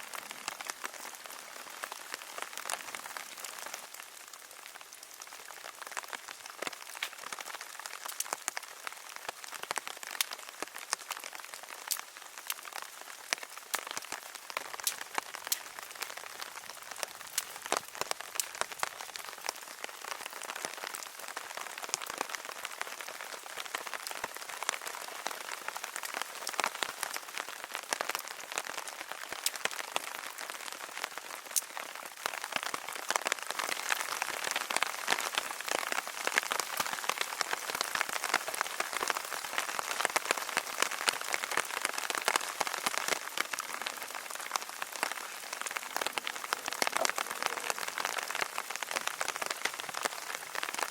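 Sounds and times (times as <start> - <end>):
raindrops ticking nearby: 0.0 - 50.9
steady rain falling: 0.0 - 50.9.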